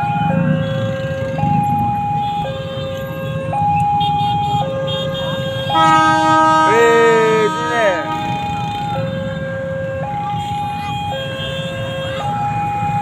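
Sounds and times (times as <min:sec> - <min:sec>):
two-tone warning siren: 0:00.0 - 0:13.0.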